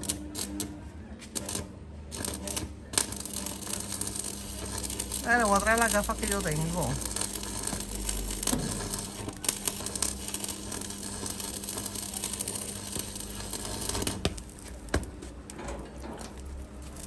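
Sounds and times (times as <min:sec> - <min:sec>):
low welder hum: 0:00.0 - 0:17.0
welding arc crackling: 0:00.0 - 0:17.0.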